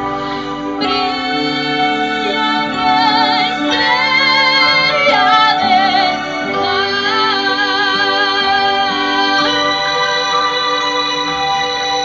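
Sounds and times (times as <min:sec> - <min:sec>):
backing music: 0:00.0 - 0:12.0
woman singing with vibrato: 0:00.0 - 0:12.0.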